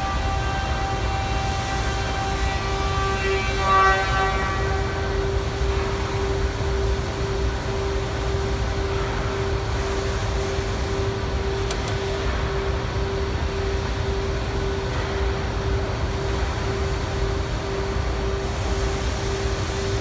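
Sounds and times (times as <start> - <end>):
factory machinery rumbling and humming: 0.0 - 20.0.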